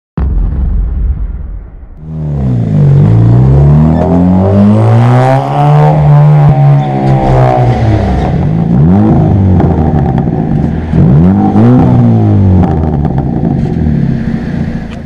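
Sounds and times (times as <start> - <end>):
car engine revving: 2.0 - 15.0.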